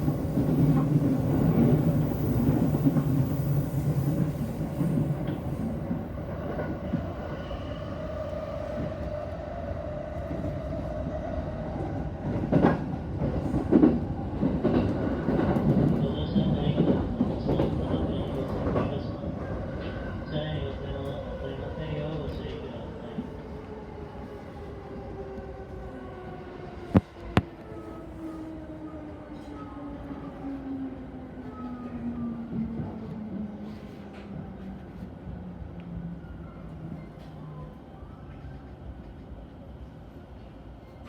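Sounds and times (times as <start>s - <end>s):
train rumbling inside carriage: 0.0s - 41.0s.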